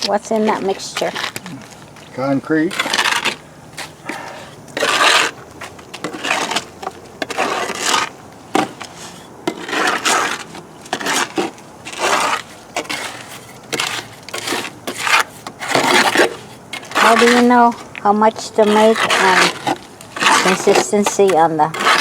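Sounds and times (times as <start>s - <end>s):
tool scraping wet concrete: 0.0s - 22.0s.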